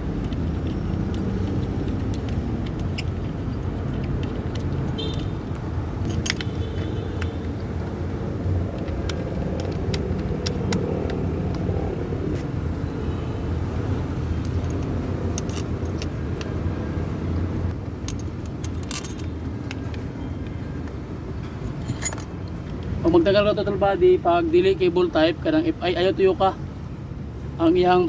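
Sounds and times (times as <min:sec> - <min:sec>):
vehicle engine humming: 0:00.0 - 0:27.5.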